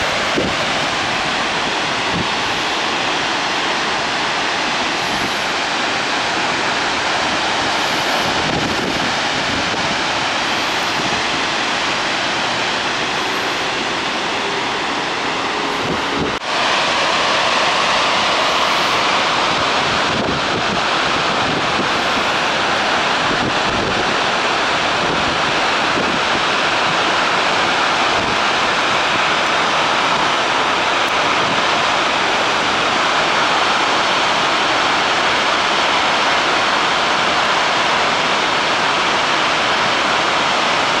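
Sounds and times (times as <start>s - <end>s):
water rushing from a dam: 0.0s - 41.0s.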